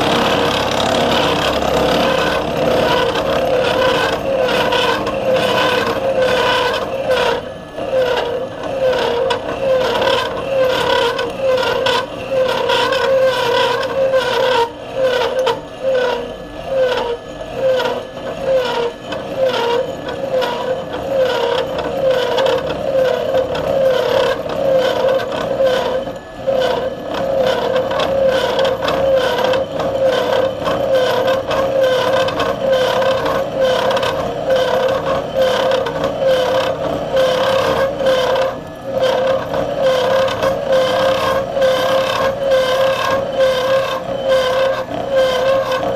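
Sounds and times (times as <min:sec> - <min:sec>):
milling machine cutting steel: 0:00.0 - 0:45.9.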